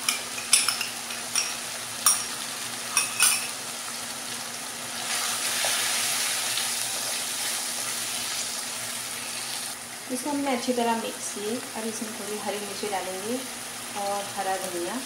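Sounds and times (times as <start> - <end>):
meat and spices sizzling in a pan: 0.0 - 15.0.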